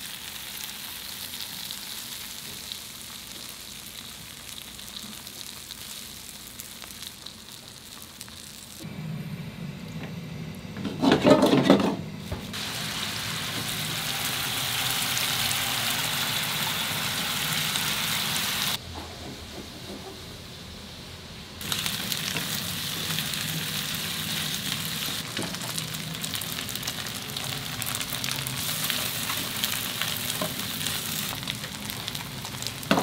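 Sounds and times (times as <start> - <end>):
intestines sizzling: 0.0 - 8.9, 12.5 - 18.8, 21.6 - 33.0.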